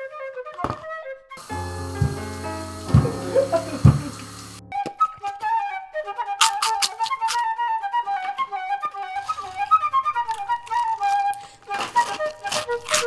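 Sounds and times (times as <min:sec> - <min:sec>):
flute melody: 0:00.0 - 0:11.4.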